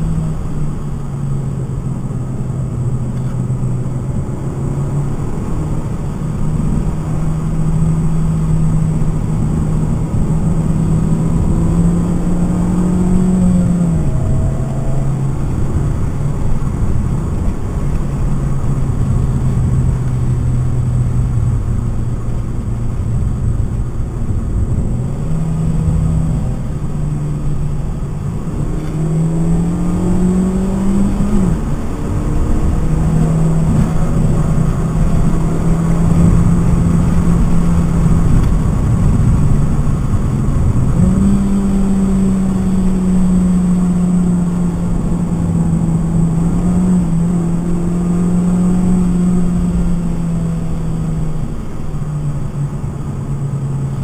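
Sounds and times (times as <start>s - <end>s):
car engine accelerating and slowing: 0.0s - 54.0s
road and tyre noise: 0.0s - 54.0s.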